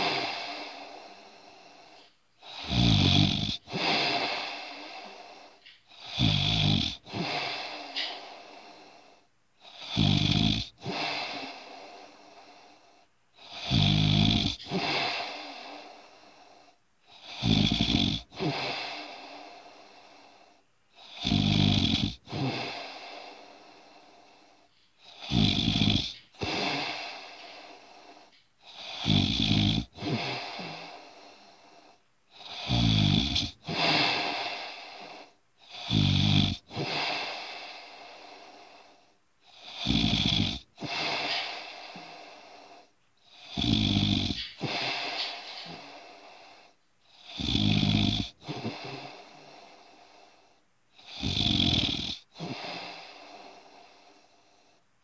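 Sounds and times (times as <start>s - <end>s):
person snoring: 0.0s - 54.8s.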